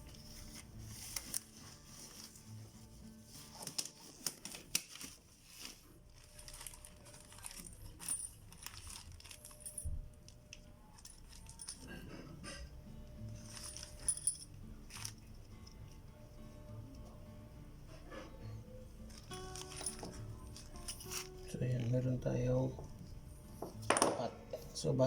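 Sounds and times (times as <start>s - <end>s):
faint background music: 0.0s - 25.0s.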